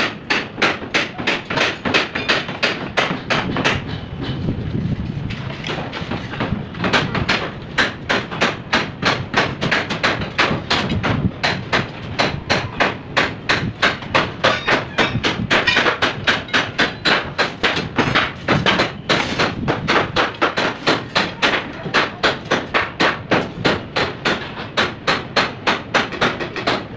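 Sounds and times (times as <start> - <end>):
hammer blows: 0.0 - 26.9.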